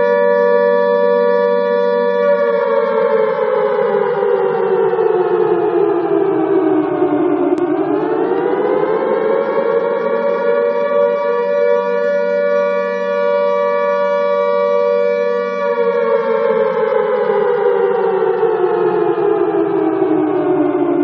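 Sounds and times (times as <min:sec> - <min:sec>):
alarm siren wailing: 0:00.0 - 0:21.0.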